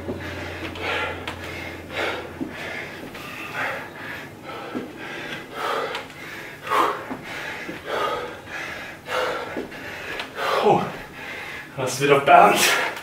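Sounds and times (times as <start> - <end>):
man breathing hard: 0.0 - 11.8.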